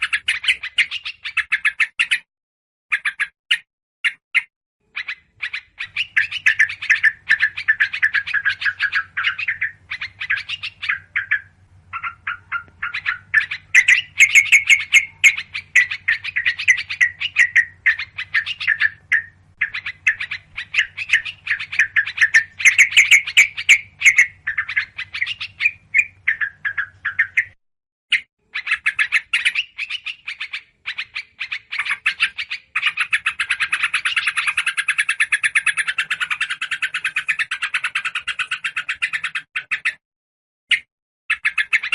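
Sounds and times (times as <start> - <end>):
birds chattering calls: 0.0 - 2.3, 4.8 - 40.0, 40.7 - 41.9.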